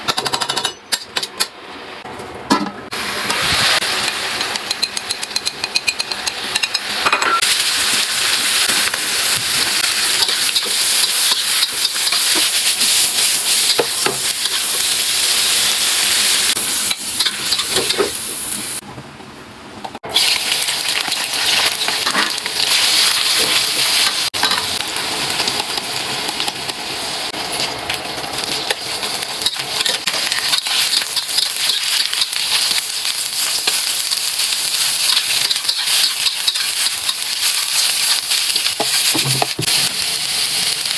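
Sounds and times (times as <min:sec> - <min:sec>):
food sizzling in a hot pan: 0:02.9 - 0:18.8, 0:20.1 - 0:40.9.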